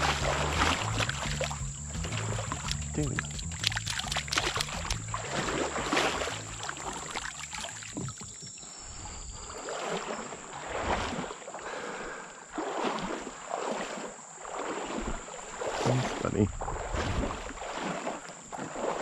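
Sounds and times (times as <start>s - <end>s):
river water splashing: 0.0s - 19.0s
water sloshing from wading: 0.0s - 19.0s.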